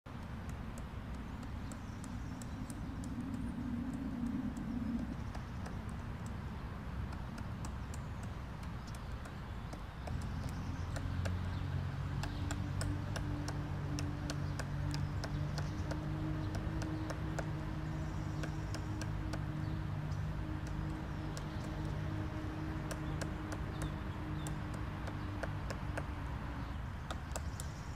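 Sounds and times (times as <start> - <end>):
low steady hum: 0.1 - 27.9
woodpecker knocking on wood: 0.1 - 27.9.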